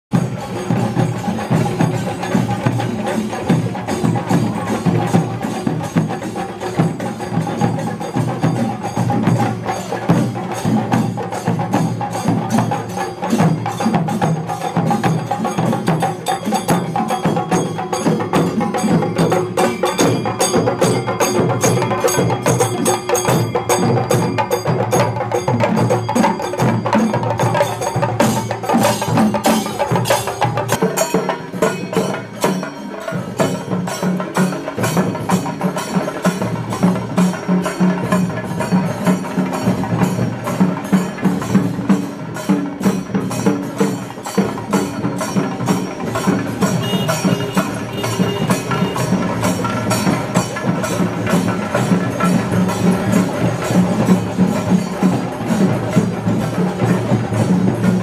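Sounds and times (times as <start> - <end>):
drums beaten fast: 0.1 - 58.0.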